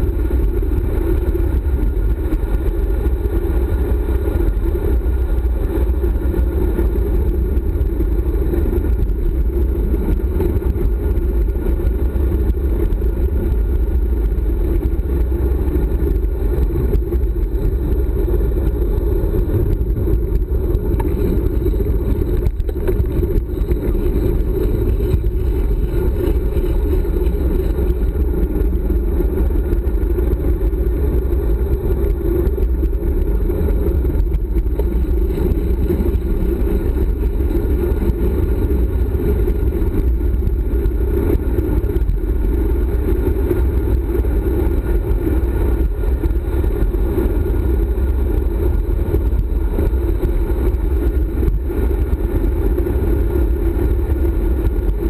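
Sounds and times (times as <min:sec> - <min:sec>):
tyres running on asphalt: 0:00.0 - 0:55.0
wind rushing over microphone: 0:00.0 - 0:55.0.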